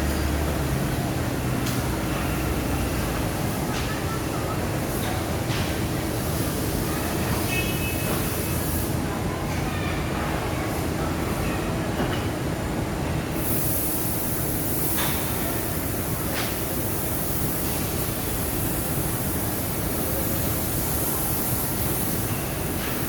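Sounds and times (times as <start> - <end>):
machinery rumble with hiss: 0.0 - 23.0.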